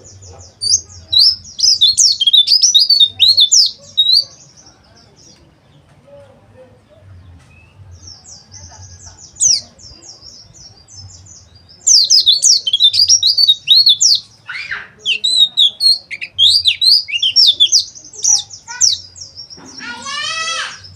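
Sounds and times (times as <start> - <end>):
birds twittering and chirping: 0.0 - 20.9.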